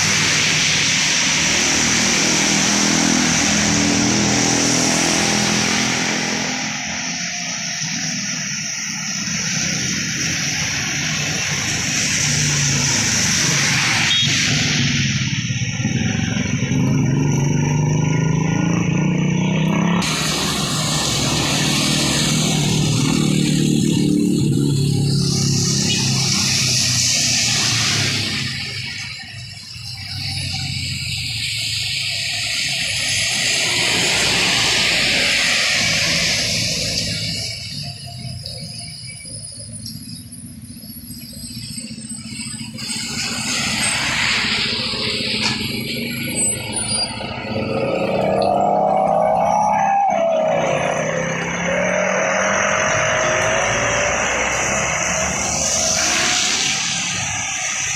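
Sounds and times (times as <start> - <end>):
tyres hissing on wet road: 0.0 - 57.9
vehicle engines running: 0.0 - 57.9.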